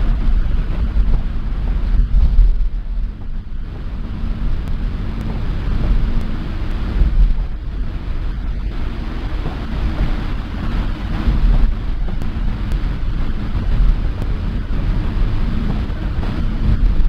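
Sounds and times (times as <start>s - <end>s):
engine and tyre rumble: 0.0s - 17.0s
wet tyres hissing: 0.0s - 17.0s.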